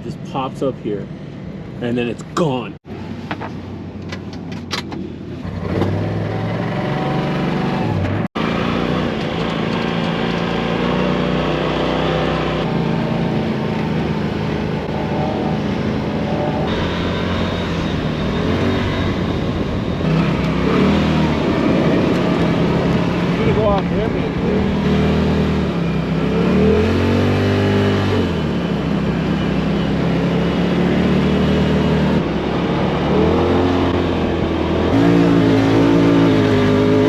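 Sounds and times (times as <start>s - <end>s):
vehicle engine running: 3.0s - 37.0s.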